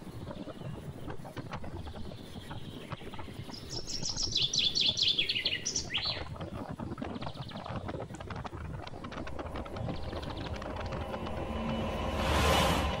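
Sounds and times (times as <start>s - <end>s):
bird chirping: 0.0s - 12.1s.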